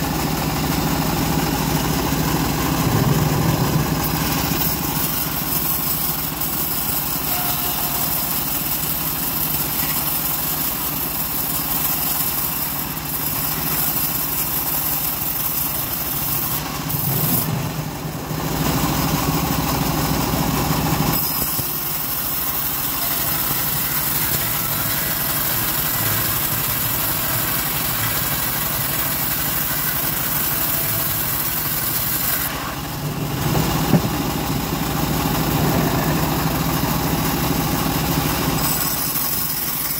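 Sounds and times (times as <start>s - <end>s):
machine drive drone: 0.0s - 39.9s
band saw blade cutting wood: 2.7s - 17.8s, 21.1s - 36.7s, 38.1s - 39.9s.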